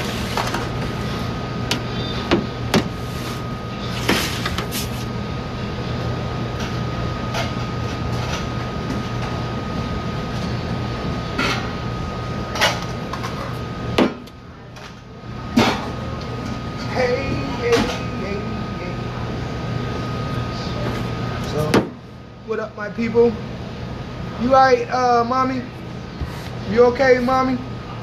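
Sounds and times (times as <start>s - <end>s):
steady machine hum: 0.0s - 28.0s.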